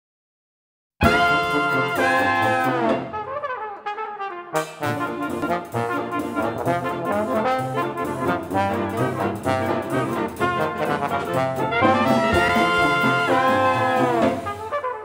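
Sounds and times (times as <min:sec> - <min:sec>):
brass music with bouncing bass: 0:01.0 - 0:15.0.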